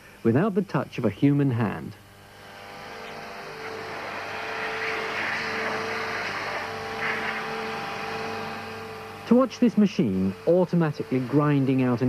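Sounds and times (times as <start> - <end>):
machine hum: 0.0 - 12.0
hissing cutting noise: 2.0 - 12.0.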